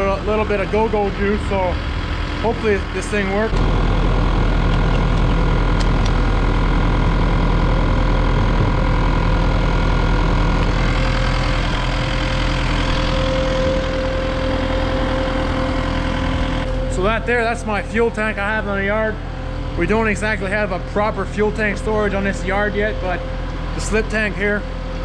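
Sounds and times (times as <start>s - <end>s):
electric fuel pump humming: 0.0s - 25.0s.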